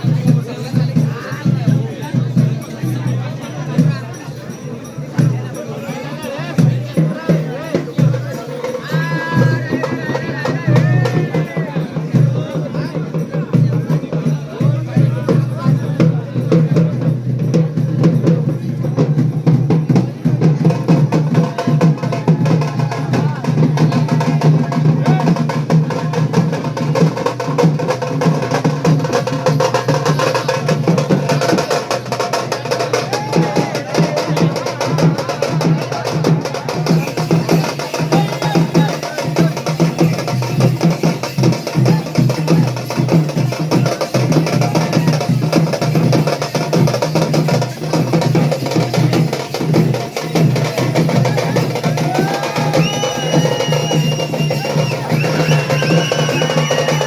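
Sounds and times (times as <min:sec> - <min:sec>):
fast dense drumming: 0:06.6 - 0:57.0.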